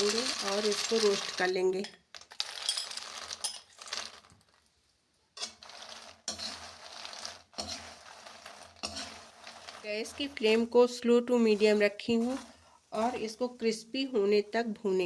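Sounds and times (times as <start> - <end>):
spatula scraping nuts in pan: 0.0 - 4.3, 5.4 - 15.0
sizzling: 0.0 - 15.0.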